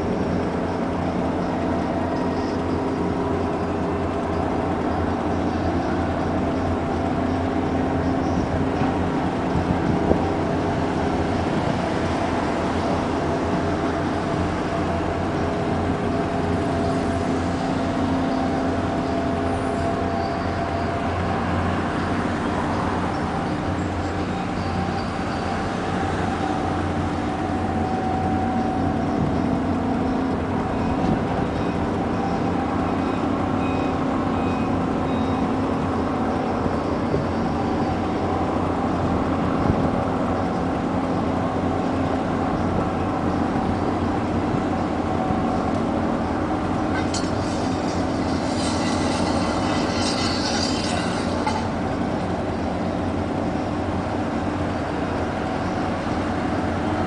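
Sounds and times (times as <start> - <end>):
ship engine humming: 0.0 - 57.0.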